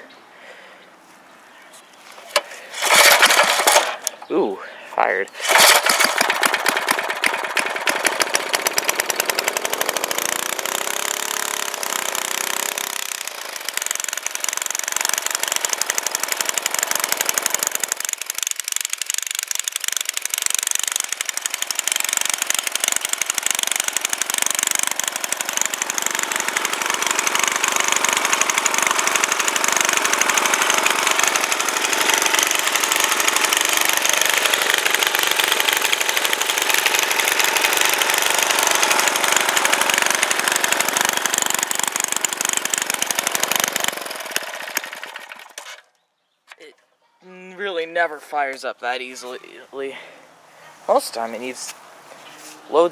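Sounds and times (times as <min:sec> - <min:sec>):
tiller engine running: 0:02.0 - 0:45.9.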